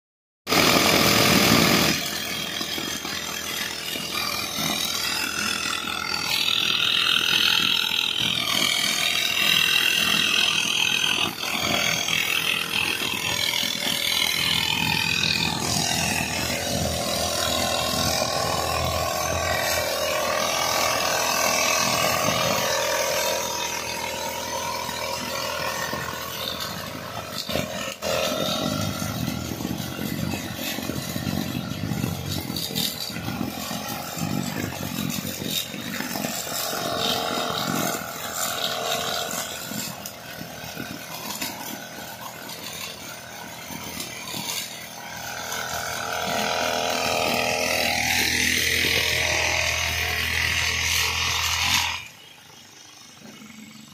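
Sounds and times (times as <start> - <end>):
brush cutter engine running: 0.5 - 53.9.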